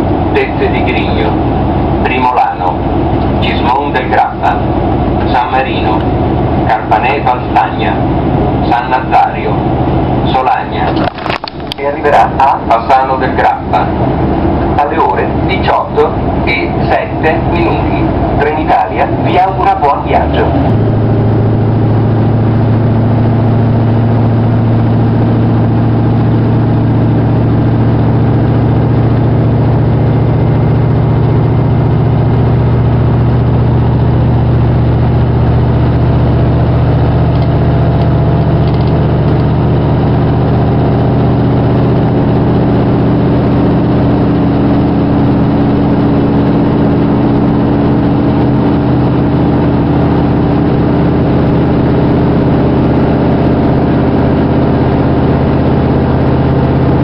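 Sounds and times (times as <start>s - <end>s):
train diesel engine droning: 0.0s - 57.0s.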